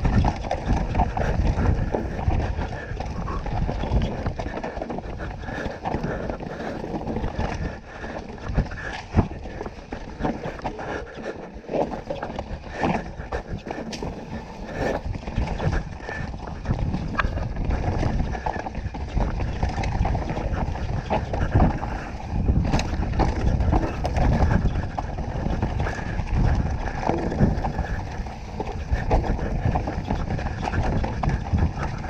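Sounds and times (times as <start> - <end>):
bike clattering over bumps: 0.0 - 32.0
tyres rumbling over dirt and rocks: 0.0 - 32.0
wind buffeting microphone: 0.0 - 32.0.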